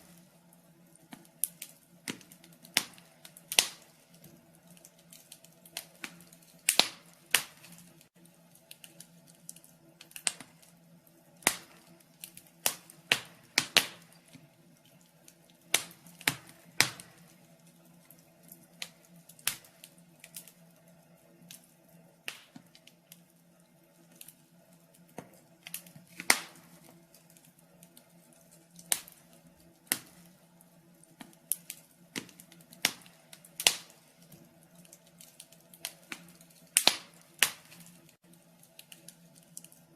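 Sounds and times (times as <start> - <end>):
faint steady hum: 0.0 - 39.9
firewood crackling and popping: 0.0 - 39.9.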